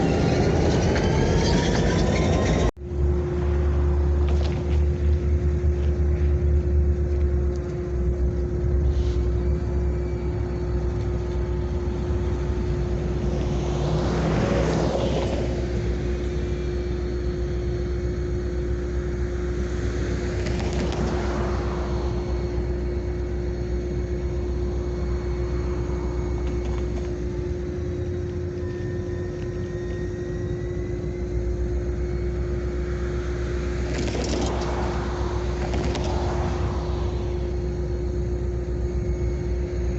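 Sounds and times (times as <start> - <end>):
diesel locomotives rumbling: 0.0 - 39.9
passing vehicles: 0.0 - 39.9.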